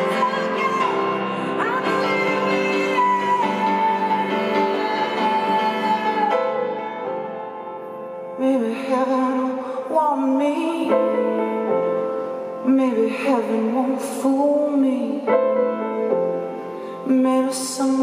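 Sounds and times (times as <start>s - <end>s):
woman singing: 0.0s - 7.3s, 8.3s - 12.0s, 12.6s - 18.0s
grand piano: 0.0s - 18.0s.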